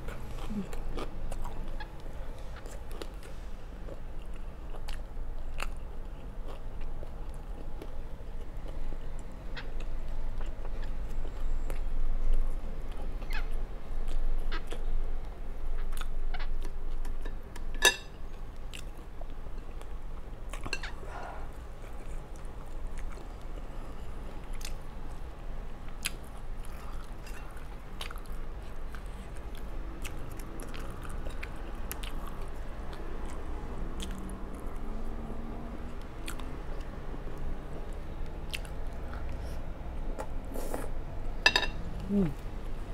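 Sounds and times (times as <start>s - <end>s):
chewing and wet mouth sounds: 0.0s - 41.0s.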